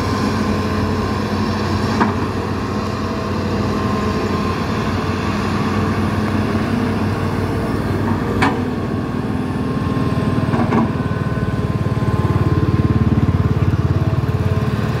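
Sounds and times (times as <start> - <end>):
excavator diesel engines running: 0.0 - 15.0.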